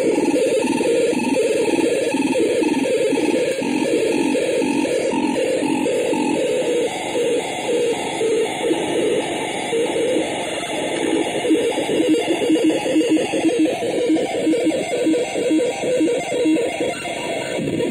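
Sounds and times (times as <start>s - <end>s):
harsh pulsing electronic noise: 0.0s - 17.9s.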